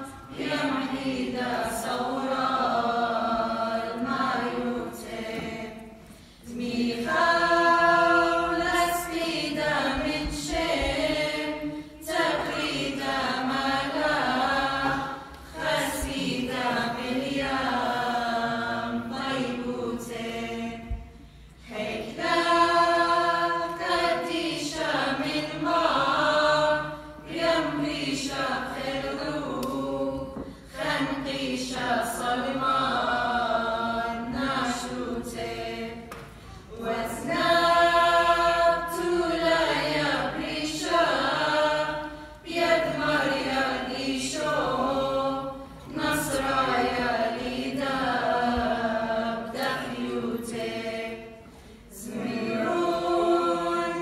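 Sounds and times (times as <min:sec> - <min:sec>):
mixed choir singing a hymn: 0:00.0 - 0:54.0.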